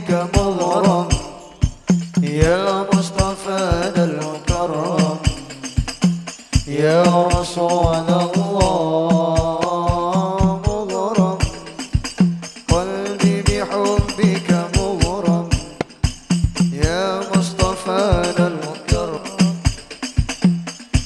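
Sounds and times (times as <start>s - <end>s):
person singing devotional song: 0.0s - 20.2s
frame drums: 0.0s - 21.0s
tambourine jingles: 0.0s - 21.0s.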